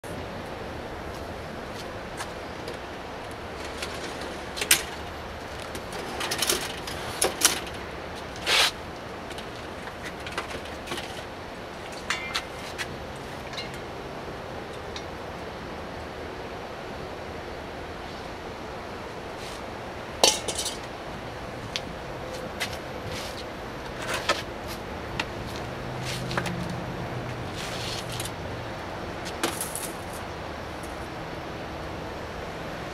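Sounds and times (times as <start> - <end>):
steady background noise: 0.0 - 32.9
steady low hum: 0.0 - 32.9.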